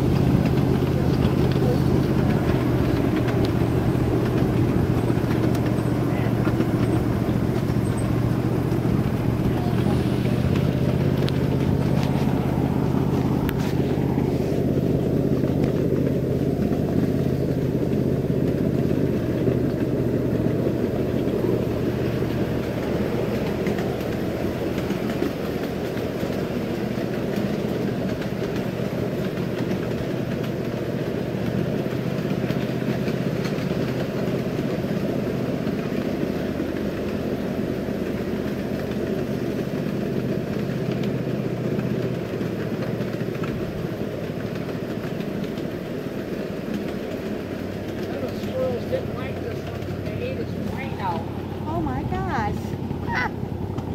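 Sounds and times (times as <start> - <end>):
miniature train running on rails: 0.0 - 53.9.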